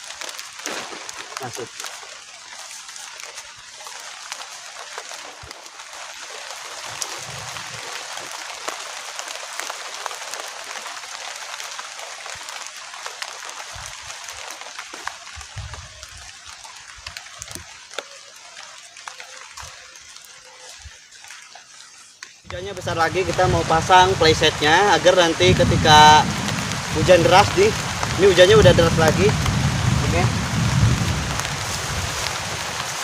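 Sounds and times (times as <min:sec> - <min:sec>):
heavy rain falling: 0:00.0 - 0:33.0
raindrops ticking: 0:00.0 - 0:33.0.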